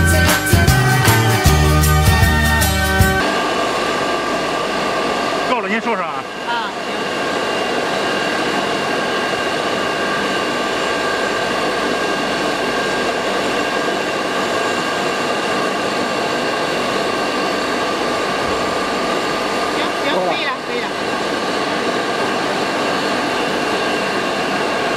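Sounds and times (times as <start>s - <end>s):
grinder mechanical drone: 0.0s - 24.9s
high whine: 0.0s - 24.9s.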